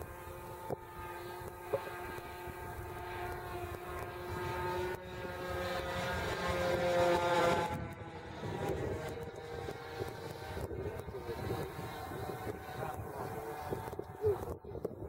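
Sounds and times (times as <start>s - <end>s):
model airplane engine buzzing: 0.0s - 15.0s.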